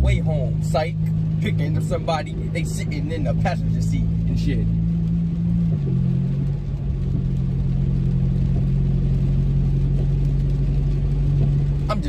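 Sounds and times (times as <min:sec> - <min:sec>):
car engine hum: 0:00.0 - 0:12.0
road noise rumble: 0:00.0 - 0:12.0.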